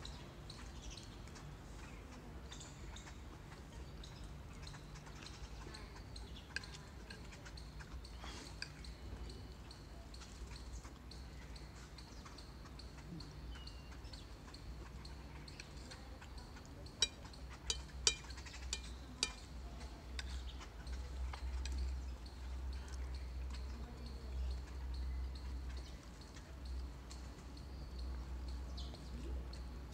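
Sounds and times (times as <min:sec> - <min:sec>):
light clicks and drips: 0:00.0 - 0:29.9.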